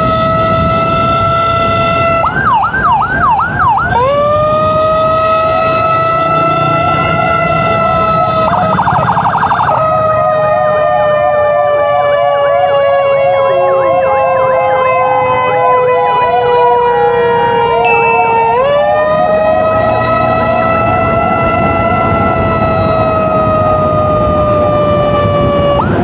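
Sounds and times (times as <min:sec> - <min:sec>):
emergency siren wail: 0:00.0 - 0:26.0
fast repeating siren yelp: 0:01.9 - 0:26.0.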